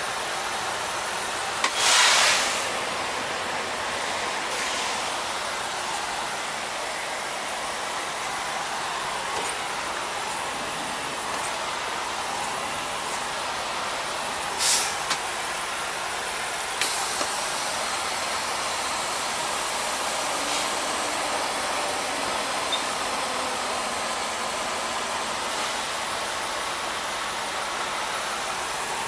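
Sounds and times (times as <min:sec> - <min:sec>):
steady hissing in truck cab: 0:00.0 - 0:29.0.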